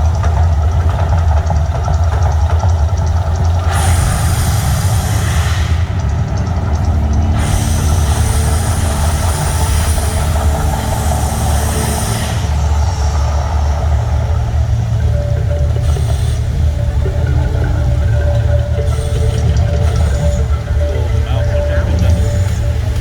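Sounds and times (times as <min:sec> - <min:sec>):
deep rumble: 0:00.0 - 0:23.0
loud hissing: 0:02.5 - 0:23.0.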